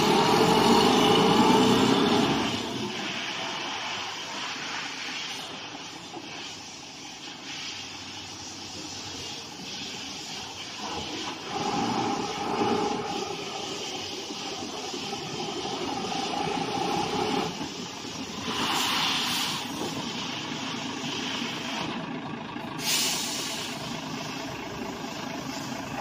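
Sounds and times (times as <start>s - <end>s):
truck diesel engine running: 0.0s - 26.0s
air brake hiss: 0.1s - 22.0s, 22.7s - 25.9s.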